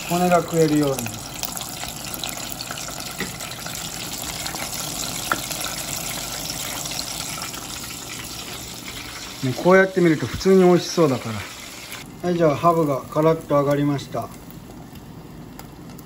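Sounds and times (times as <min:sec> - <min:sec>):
food deep-frying in hot oil: 0:00.0 - 0:16.0.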